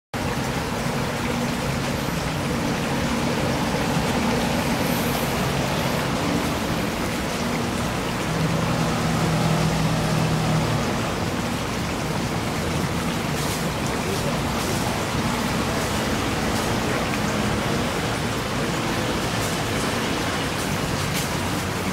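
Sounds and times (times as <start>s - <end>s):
flowing water rushing: 0.2s - 21.9s.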